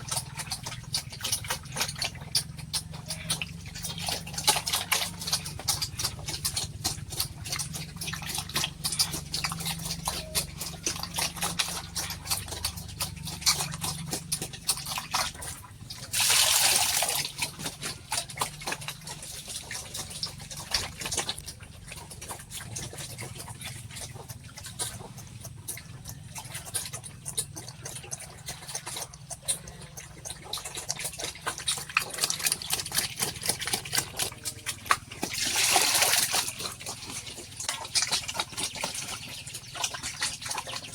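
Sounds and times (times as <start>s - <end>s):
pigs chomping and slurping: 0.0s - 40.9s.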